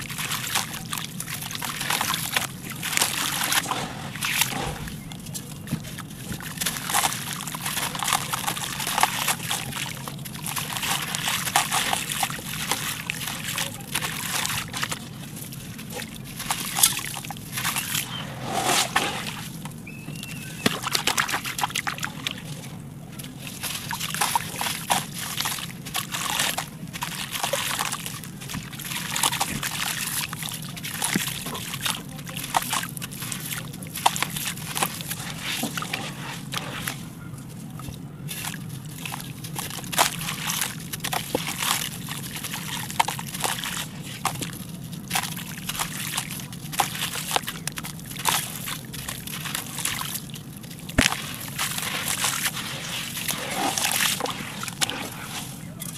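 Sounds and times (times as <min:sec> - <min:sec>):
hands squishing wet clay: 0:00.0 - 0:55.9
small crackles of crumbling clay: 0:00.0 - 0:55.9.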